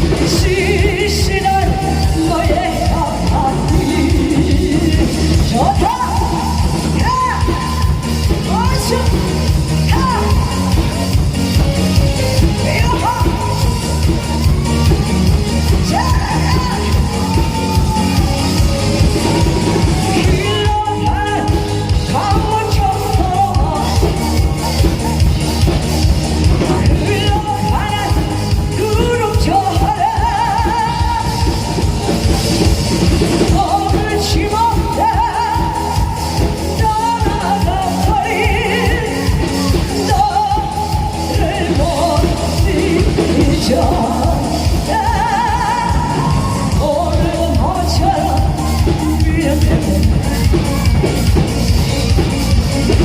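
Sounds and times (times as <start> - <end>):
music with drum beat: 0.0 - 53.0
person singing with vibrato: 0.0 - 53.0.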